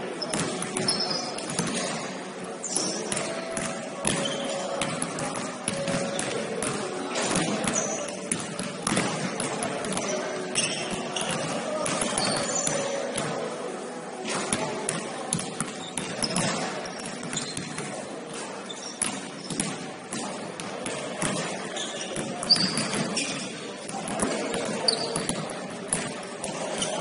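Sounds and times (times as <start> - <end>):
players' voices: 0.0 - 27.0
sneaker squeaks: 0.2 - 13.5, 15.4 - 20.1, 21.2 - 27.0
basketball bouncing on court: 2.8 - 13.3, 14.5 - 18.0, 18.7 - 27.0.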